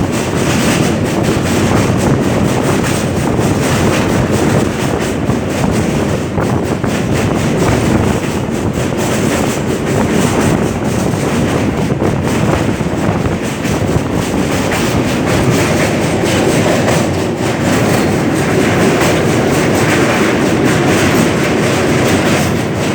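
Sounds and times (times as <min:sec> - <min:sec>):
train wheels clattering on bridge: 0:00.0 - 0:22.9.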